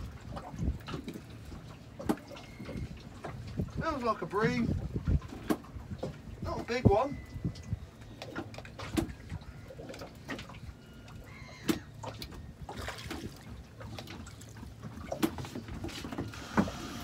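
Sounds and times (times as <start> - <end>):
water lapping against boat: 0.0 - 17.0.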